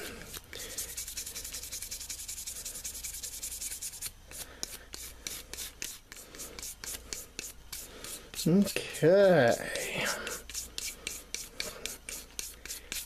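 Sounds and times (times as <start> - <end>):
toothbrush scrubbing metal blade: 0.3 - 13.0.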